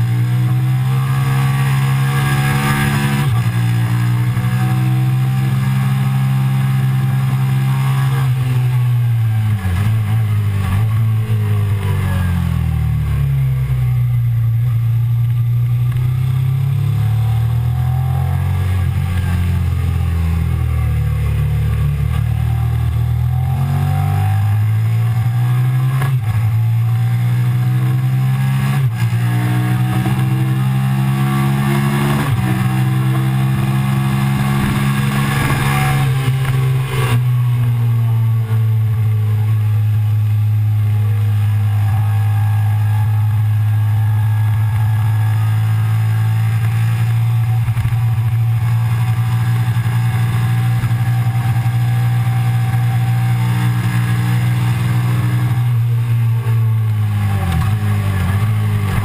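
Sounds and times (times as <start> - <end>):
gear shift pitch drops: 0.0 - 59.0
motorcycle engine revving: 0.0 - 59.0.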